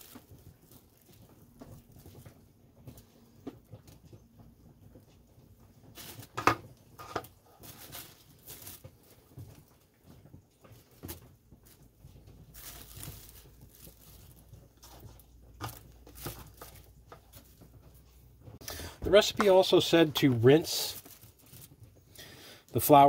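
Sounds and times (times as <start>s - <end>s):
plastic bag crinkling: 0.0s - 2.4s, 5.9s - 9.9s, 10.7s - 23.0s.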